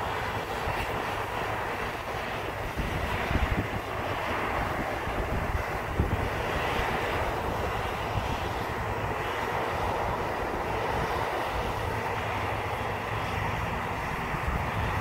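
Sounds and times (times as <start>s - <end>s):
combine harvester drone: 0.0s - 15.0s.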